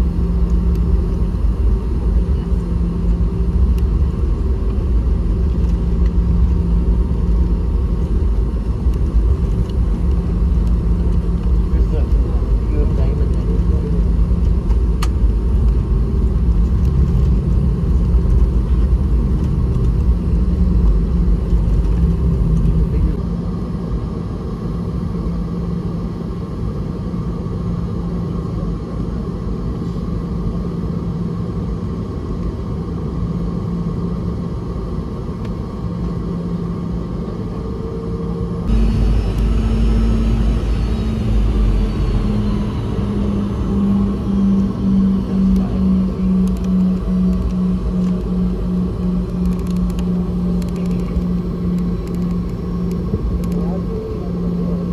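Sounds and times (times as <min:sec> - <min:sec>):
airplane cabin engine hum: 0:00.0 - 0:54.9.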